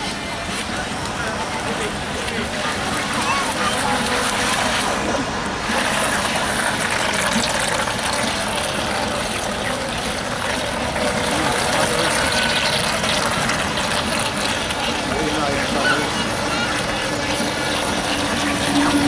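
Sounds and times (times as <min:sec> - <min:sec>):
choppy water rushing: 0:00.0 - 0:19.0.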